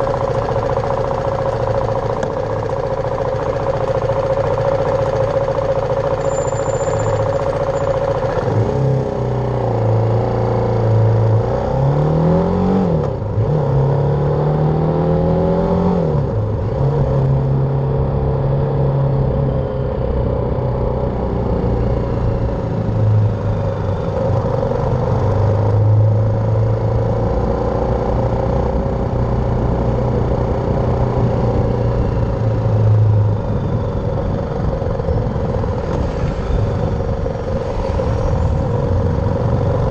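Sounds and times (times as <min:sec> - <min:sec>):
motorcycle engine running: 0:00.0 - 0:12.1, 0:12.8 - 0:39.9.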